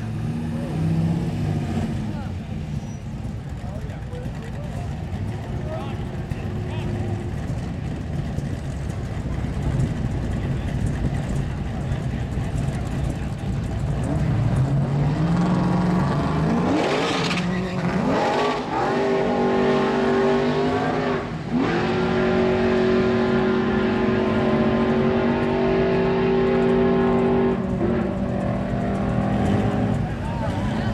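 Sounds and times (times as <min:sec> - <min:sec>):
drag racing cars accelerating: 0:00.0 - 0:30.9.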